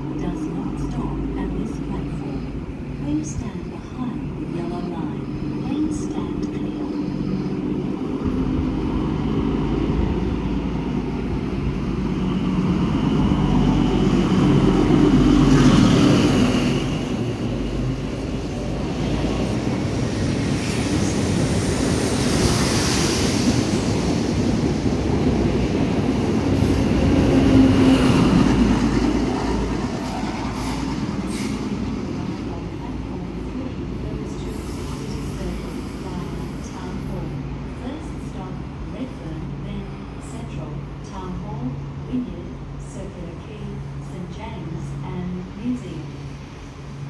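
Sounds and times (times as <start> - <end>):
diesel train engine rumble: 0.0 - 47.0.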